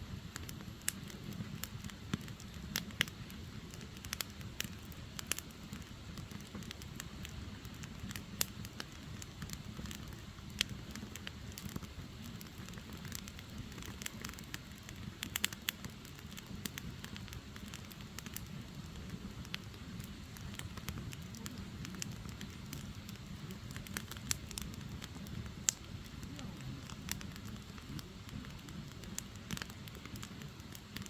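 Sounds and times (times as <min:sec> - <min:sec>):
firewood crackling and popping: 0:00.0 - 0:31.0.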